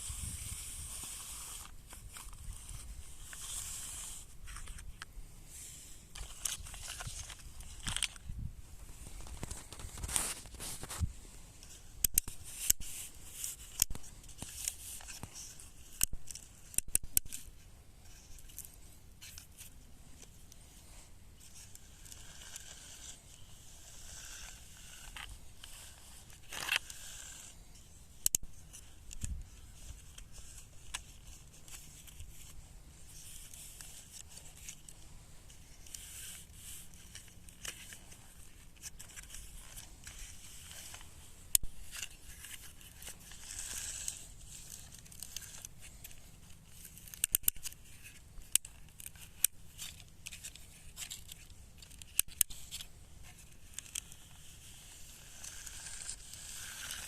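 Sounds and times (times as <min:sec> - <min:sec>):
soft scraping and rustling: 0:00.0 - 0:57.0.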